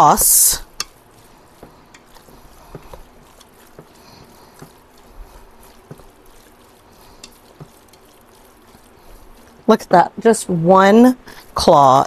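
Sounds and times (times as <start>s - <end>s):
claw scraping metal pot: 0.0s - 9.7s
meat squishing wetly: 0.0s - 10.6s.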